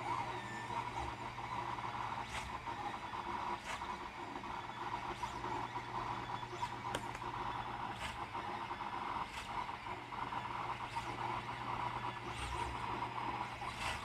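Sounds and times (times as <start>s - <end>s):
stepper motors whirring: 0.0s - 14.0s.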